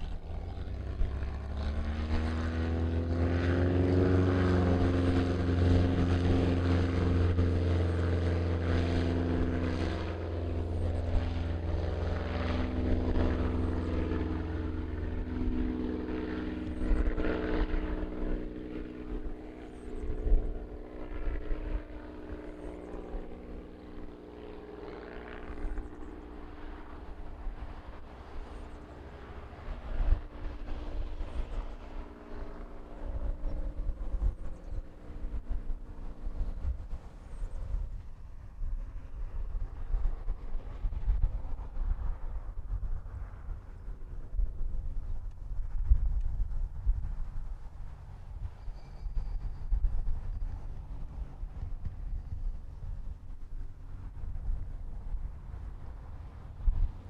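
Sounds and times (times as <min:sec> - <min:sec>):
propeller engines running up: 0:00.0 - 0:57.0.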